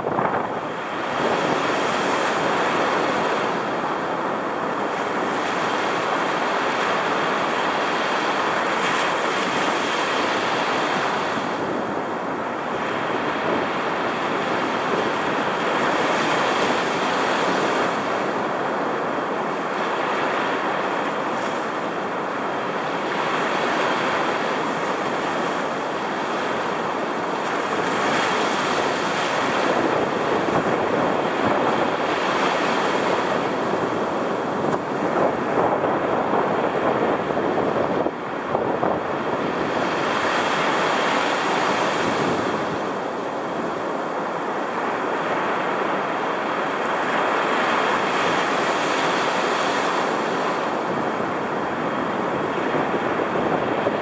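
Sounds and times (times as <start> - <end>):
storm surf breaking on sand: 0.0 - 54.0.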